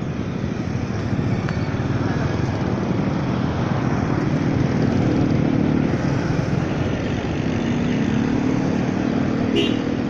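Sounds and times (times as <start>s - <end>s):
motorcycle engine cruising: 0.0s - 10.0s
road noise: 0.0s - 10.0s.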